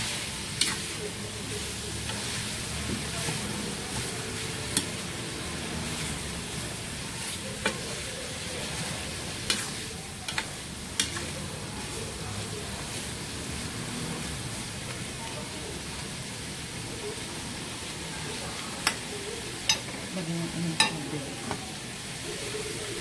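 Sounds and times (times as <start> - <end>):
vegetables sizzling in a metal pan: 0.0 - 23.0.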